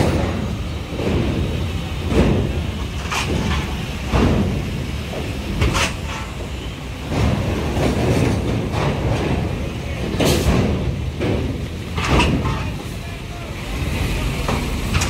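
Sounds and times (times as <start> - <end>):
truck engines rumbling: 0.0 - 15.0.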